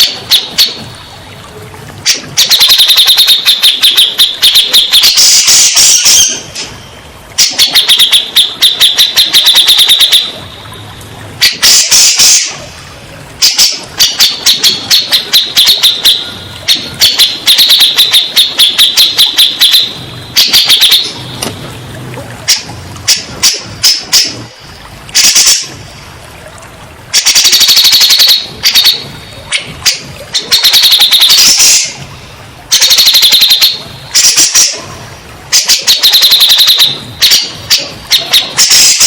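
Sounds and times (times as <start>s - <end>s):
bulbul chattering song: 0.0s - 1.3s, 2.0s - 21.6s, 27.1s - 34.9s, 35.5s - 39.0s.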